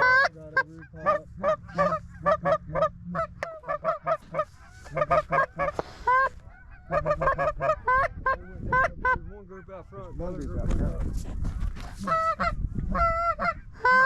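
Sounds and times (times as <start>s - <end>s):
goose honking: 0.0s - 9.9s, 11.8s - 14.0s.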